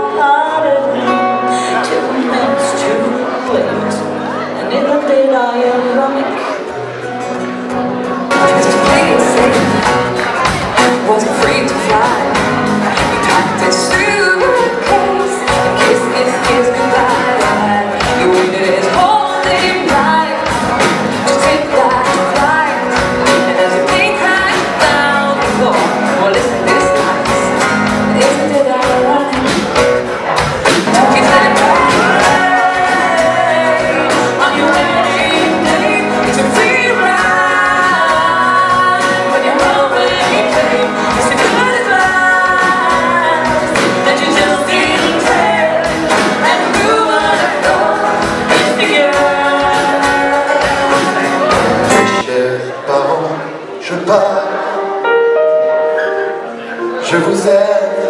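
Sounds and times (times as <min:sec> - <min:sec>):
women singing: 0:00.0 - 0:06.6, 0:08.4 - 0:10.2, 0:10.8 - 0:29.8, 0:30.7 - 0:52.2
drums: 0:00.0 - 0:52.9
acoustic guitar: 0:00.0 - 0:58.0
keyboard: 0:00.0 - 0:58.0.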